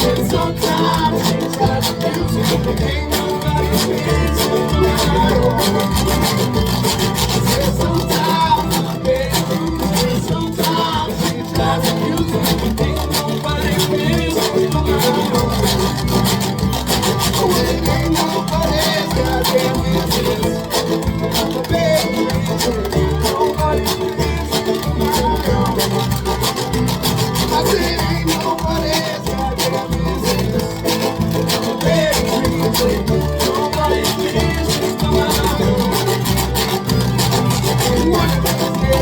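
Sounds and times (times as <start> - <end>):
driving beat: 0.0 - 39.0
folk band playing: 0.0 - 39.0
strummed acoustic strings: 0.0 - 39.0.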